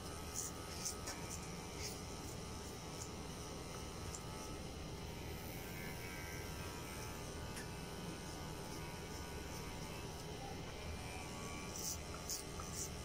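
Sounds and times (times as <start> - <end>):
electric hair clipper buzzing: 0.0 - 13.0.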